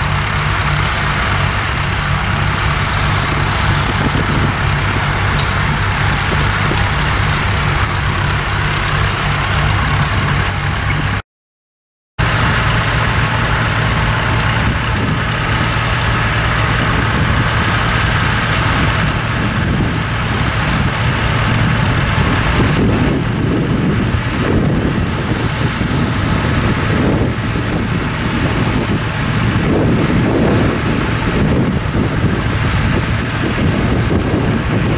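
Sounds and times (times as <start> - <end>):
tractor engine running: 0.0 - 11.2, 12.2 - 34.9.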